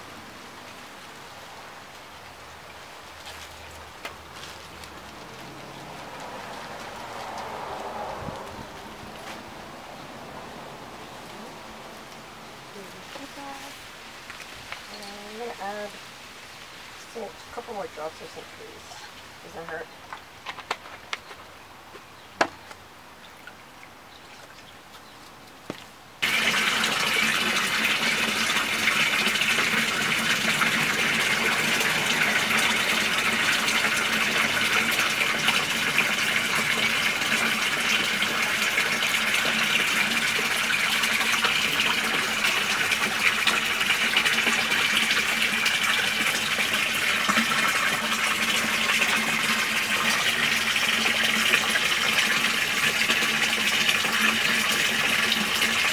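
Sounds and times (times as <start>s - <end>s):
running water rushing: 0.0s - 19.8s, 26.2s - 55.9s.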